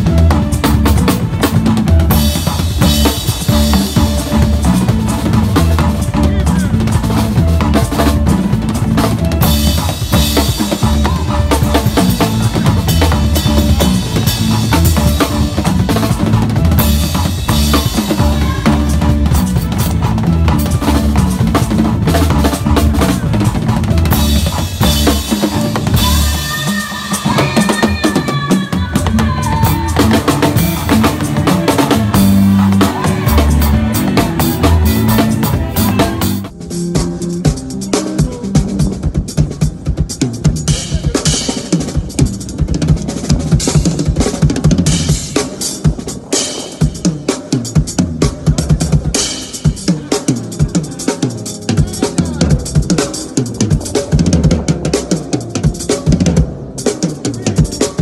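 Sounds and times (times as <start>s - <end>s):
bass drum: 0.0s - 47.0s.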